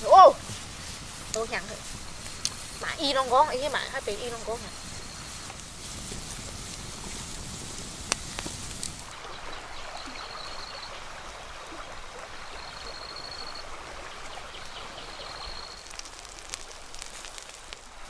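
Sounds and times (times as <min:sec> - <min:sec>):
campfire crackling: 0:00.0 - 0:18.0
river water flowing: 0:00.0 - 0:18.0.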